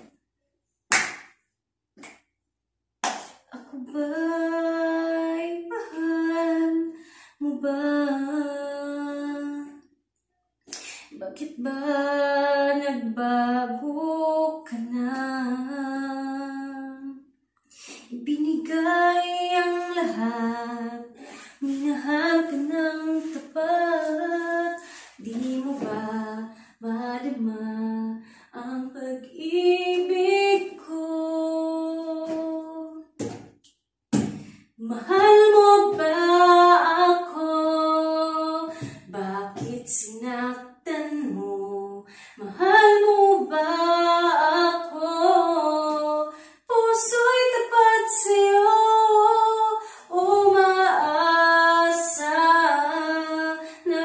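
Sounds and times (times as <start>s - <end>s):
woman singing unaccompanied: 3.5s - 9.8s, 11.1s - 17.2s, 18.1s - 33.2s, 34.8s - 54.0s.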